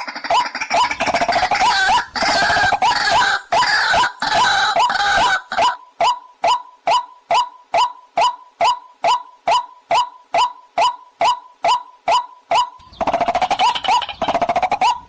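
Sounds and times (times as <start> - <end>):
waterhen calling: 0.0 - 15.0.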